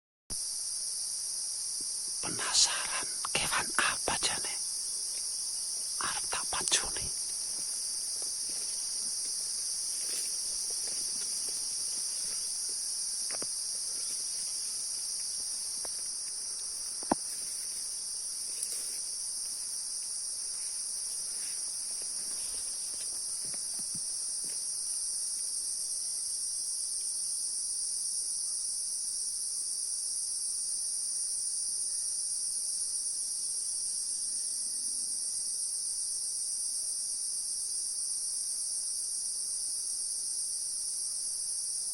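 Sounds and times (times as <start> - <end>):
insects chirping: 0.3 - 41.9.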